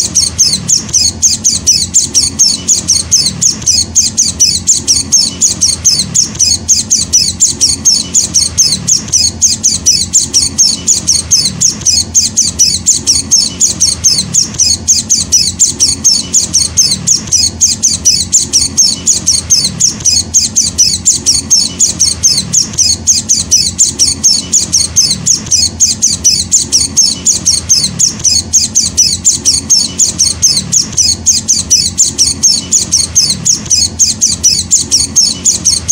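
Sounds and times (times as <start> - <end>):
bird chick chirping: 0.0 - 35.9.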